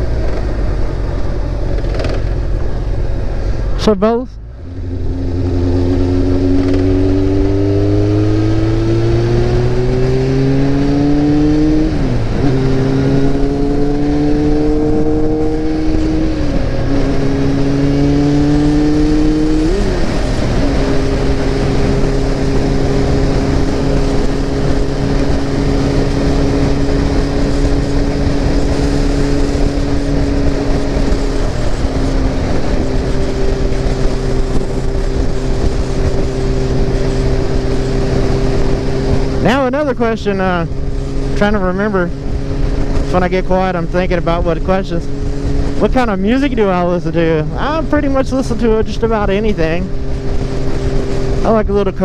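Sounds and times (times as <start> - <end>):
motorcycle engine accelerating: 0.0 - 52.0
wind noise: 0.0 - 52.0.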